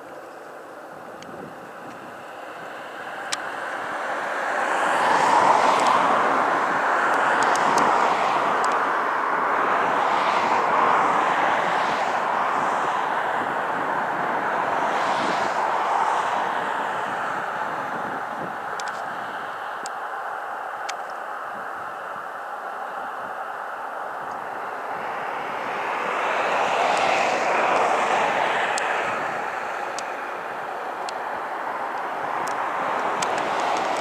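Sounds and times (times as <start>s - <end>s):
aircraft engines rushing: 0.0s - 34.0s.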